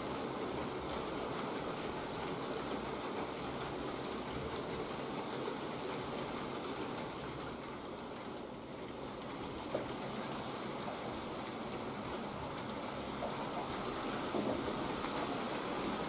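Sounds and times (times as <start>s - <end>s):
model train wheels rattling: 0.0s - 16.0s.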